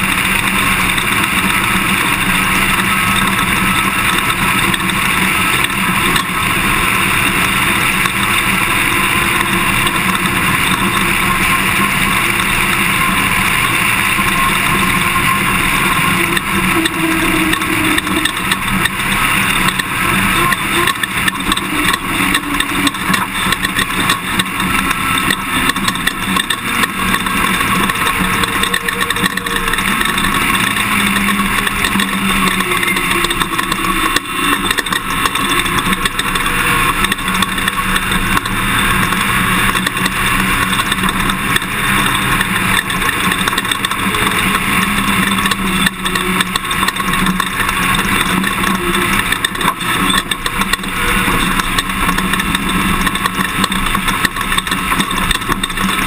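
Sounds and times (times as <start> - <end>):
pickup engine and tyre noise: 0.0 - 56.0
rattles and jolts: 0.0 - 56.0.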